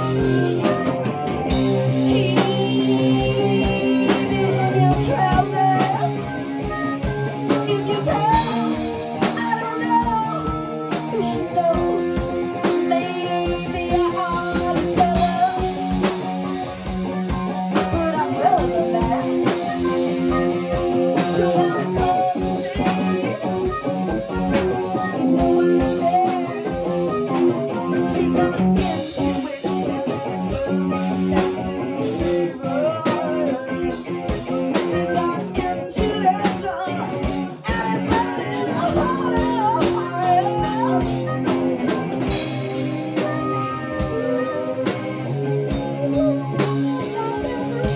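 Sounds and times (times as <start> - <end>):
drum kit beat: 0.0 - 47.9
electric guitar: 0.0 - 47.9
harmonica: 0.0 - 47.9
woman singing: 0.0 - 47.9.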